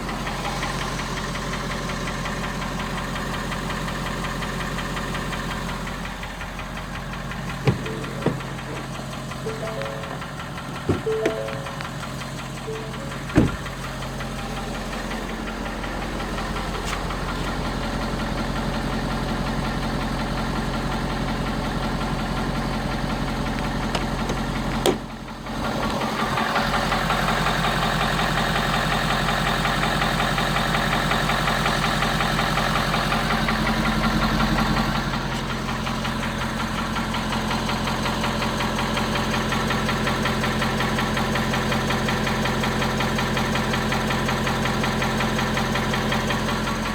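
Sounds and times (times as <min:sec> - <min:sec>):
diesel engine idling with knock: 0:00.0 - 0:46.9.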